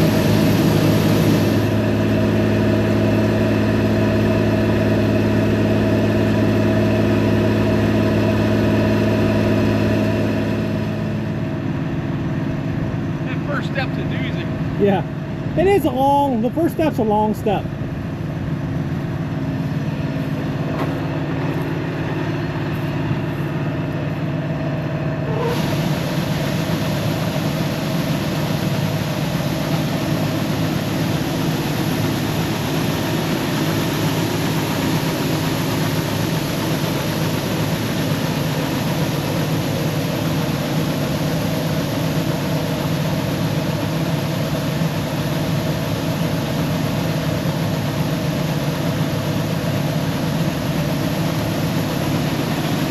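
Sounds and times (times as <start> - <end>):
broad rushing noise: 0.0 - 52.9
diesel engine running: 0.0 - 52.9.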